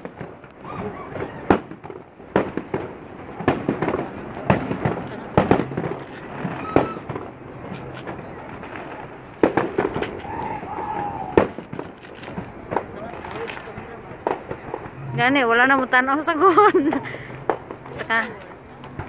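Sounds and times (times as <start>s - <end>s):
firework bangs: 0.0s - 19.0s
firework crackling: 0.0s - 19.0s.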